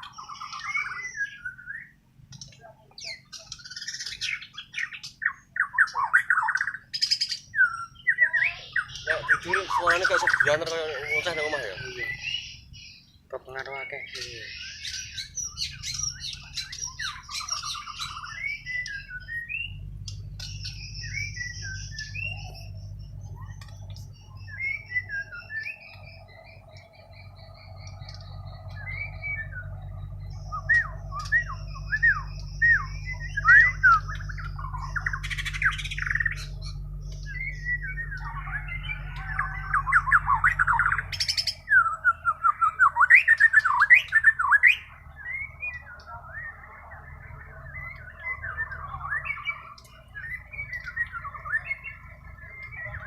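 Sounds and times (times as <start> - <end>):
songbird whistling and trilling: 0.0 - 53.0
steady low hum: 0.0 - 53.0.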